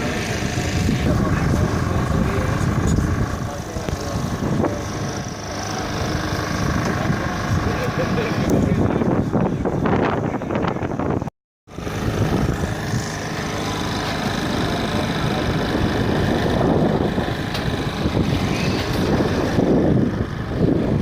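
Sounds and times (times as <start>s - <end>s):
mechanical engine running: 0.0s - 21.0s.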